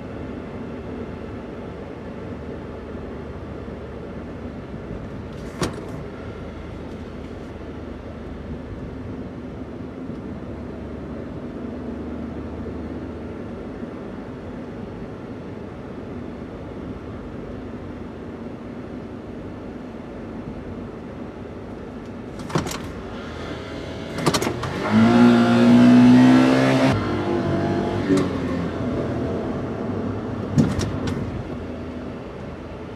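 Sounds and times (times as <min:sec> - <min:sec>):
road noise: 0:00.0 - 0:32.9
van engine running: 0:00.0 - 0:32.9.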